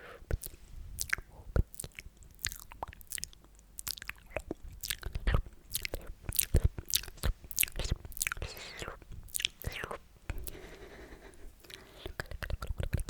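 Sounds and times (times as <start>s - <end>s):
tongue clicks and pops: 0.3s - 10.5s, 11.6s - 13.0s
wet lip smacks: 0.3s - 10.7s, 11.6s - 13.0s.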